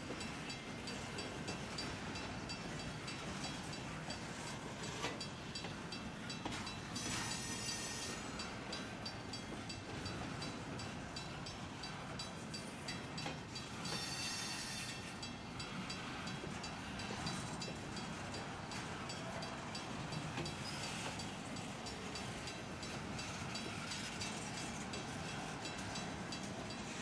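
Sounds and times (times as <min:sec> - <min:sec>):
freight train wheels rumbling: 0:00.0 - 0:27.0
crossing bell dinging: 0:00.1 - 0:27.0.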